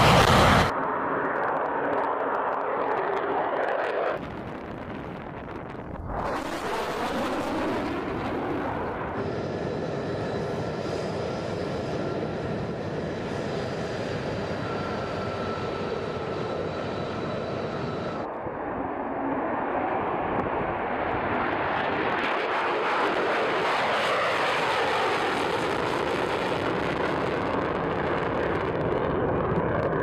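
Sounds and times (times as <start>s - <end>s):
jet engines whining while taxiing: 0.0s - 30.0s
jet passing overhead roaring: 0.0s - 30.0s
jet taking off roaring: 0.0s - 30.0s.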